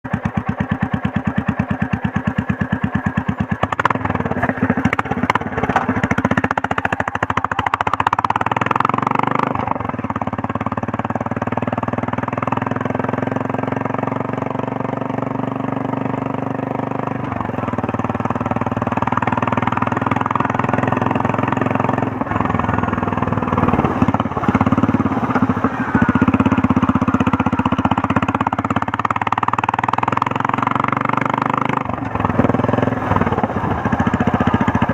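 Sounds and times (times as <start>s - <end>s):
motorcycle engine thumping and revving: 0.0s - 34.9s.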